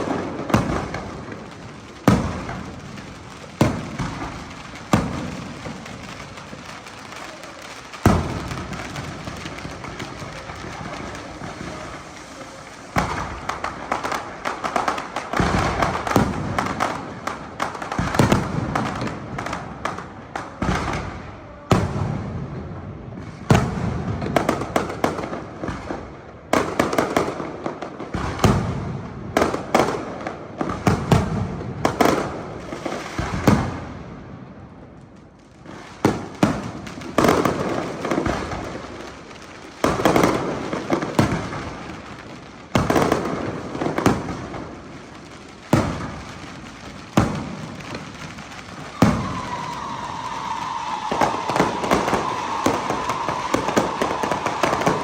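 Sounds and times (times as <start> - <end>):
fireworks bursting with bangs: 0.0 - 55.0
fireworks crackling: 0.0 - 55.0.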